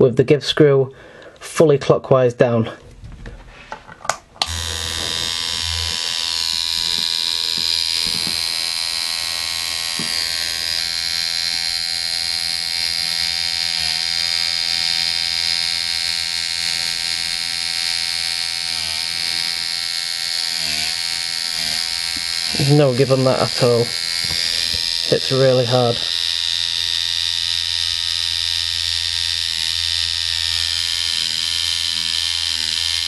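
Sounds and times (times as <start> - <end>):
tattoo machine buzzing: 4.4 - 33.0.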